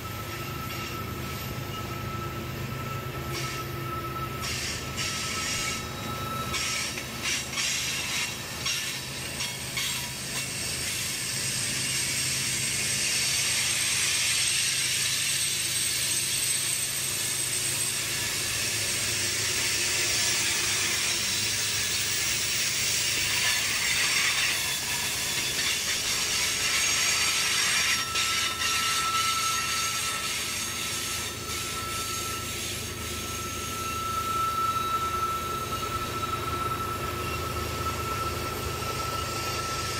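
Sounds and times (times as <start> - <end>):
high wheel squeal: 0.0 - 39.9
steel wheels rolling on rail: 0.0 - 39.9.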